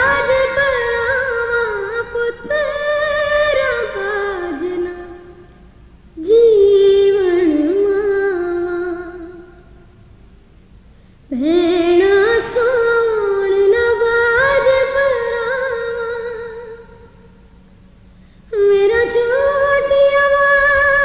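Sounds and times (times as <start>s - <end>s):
woman singing a lament: 0.0s - 5.5s, 6.2s - 9.6s, 11.3s - 17.1s, 18.5s - 21.0s.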